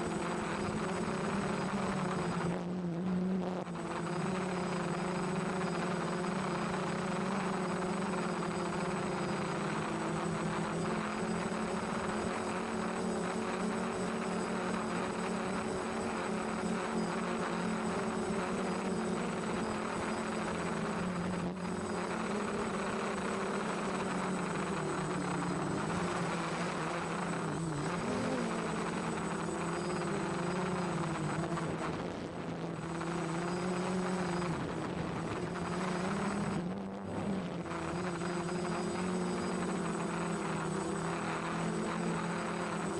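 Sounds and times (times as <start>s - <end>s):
quadcopter propellers buzzing: 0.0s - 42.9s.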